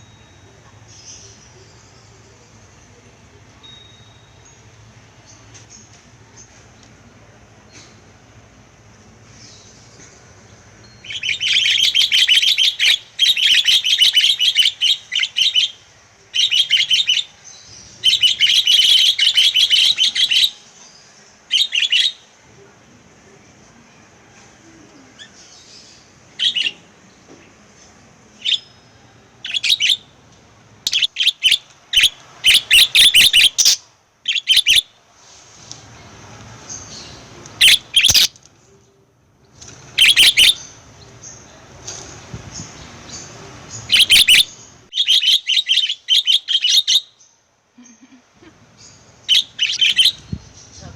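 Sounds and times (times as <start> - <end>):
lovebirds chirping: 0.0 - 8.4, 9.1 - 22.4, 24.9 - 30.2, 30.8 - 50.9.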